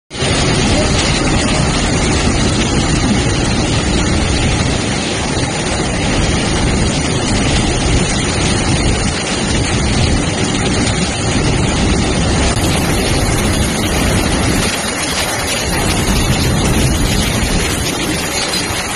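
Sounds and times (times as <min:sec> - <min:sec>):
train rolling noise: 0:00.1 - 0:18.9
water rushing from train wheels: 0:00.1 - 0:18.9.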